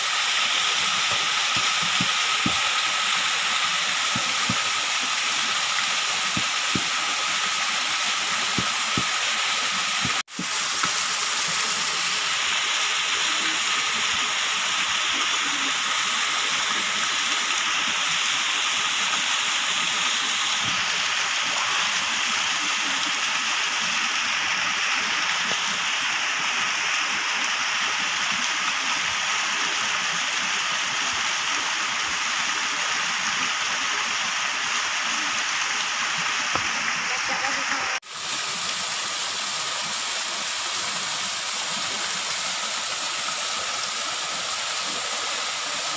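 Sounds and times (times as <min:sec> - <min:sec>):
waterfall rushing: 0:00.0 - 0:29.5, 0:35.0 - 0:45.9.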